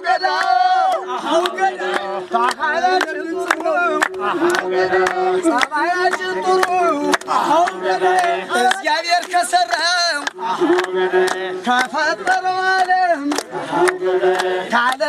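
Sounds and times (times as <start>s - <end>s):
group clapping hands: 0.0s - 15.0s
man singing: 0.0s - 15.0s.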